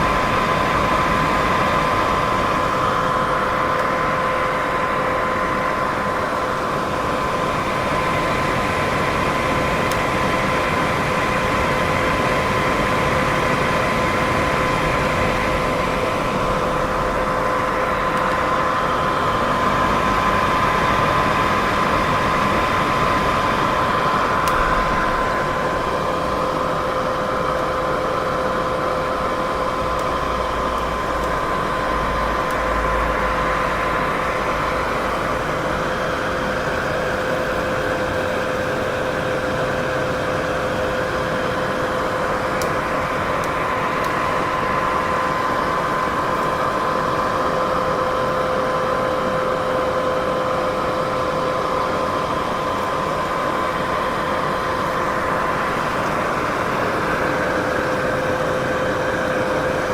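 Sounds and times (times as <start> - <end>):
faint steady humming tones: 0.0 - 59.9.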